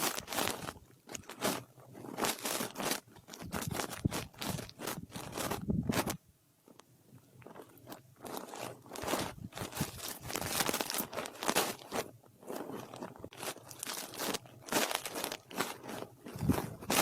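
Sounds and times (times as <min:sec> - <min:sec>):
brush scratching microphone: 0:01.3 - 0:06.2, 0:07.8 - 0:17.0.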